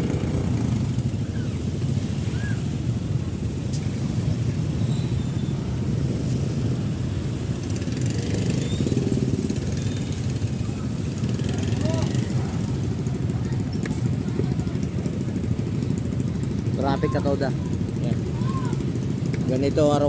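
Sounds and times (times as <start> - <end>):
low rumble of traffic: 0.0 - 20.0
motorcycle engine running: 0.0 - 20.0.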